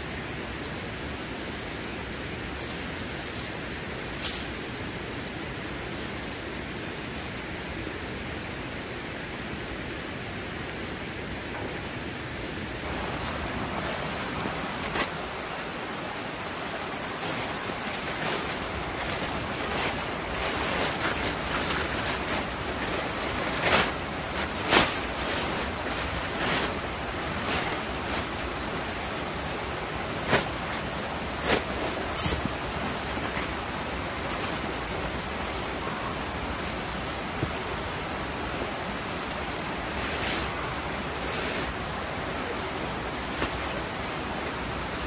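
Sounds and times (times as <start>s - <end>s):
mountain stream rushing: 0.0s - 45.0s.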